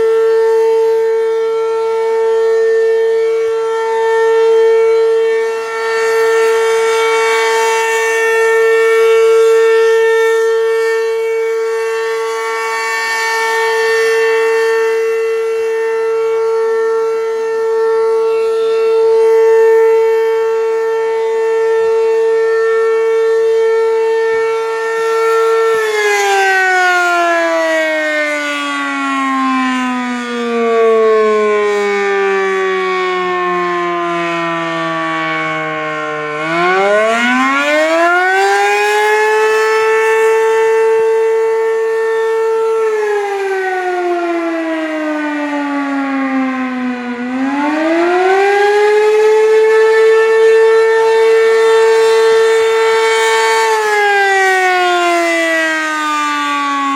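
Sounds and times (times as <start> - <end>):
rising and falling siren: 0.0 - 56.9.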